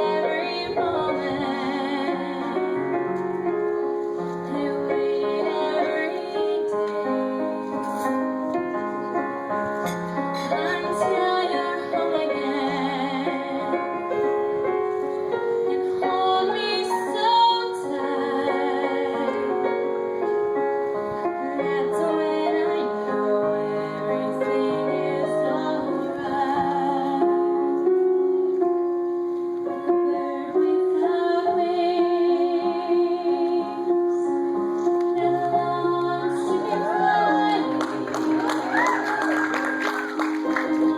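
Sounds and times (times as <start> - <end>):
woman singing a ballad: 0.0 - 3.2, 4.3 - 8.3, 10.4 - 14.4, 15.5 - 20.2, 21.3 - 27.9, 29.7 - 40.9
piano accompaniment: 0.0 - 40.9.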